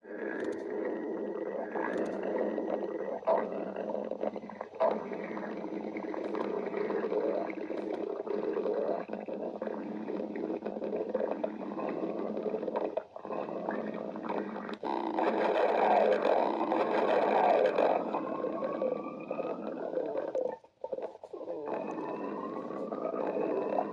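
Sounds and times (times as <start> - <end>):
stomach growling: 0.0 - 23.9.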